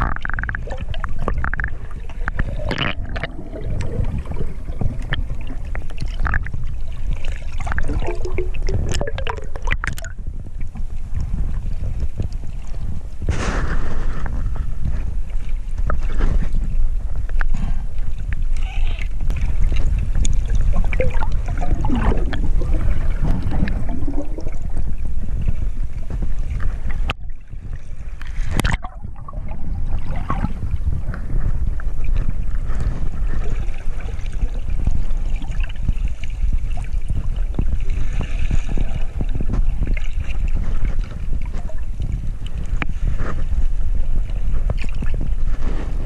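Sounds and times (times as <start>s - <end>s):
underwater rumble: 0.0s - 46.0s
water gurgling: 0.0s - 46.0s.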